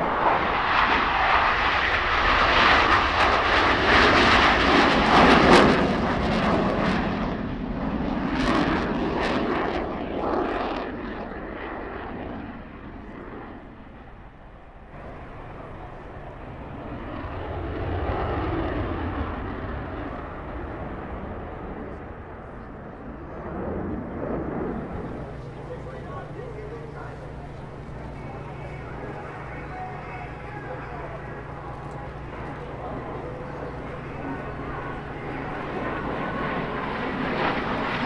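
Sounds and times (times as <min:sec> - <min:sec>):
jet roar passing: 0:00.0 - 0:38.0.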